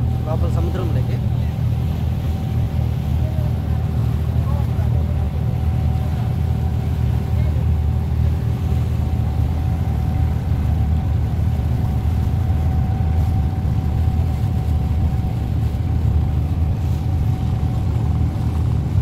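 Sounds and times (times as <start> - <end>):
boat engine rumbling: 0.0 - 19.0
water washing along hull: 0.0 - 19.0.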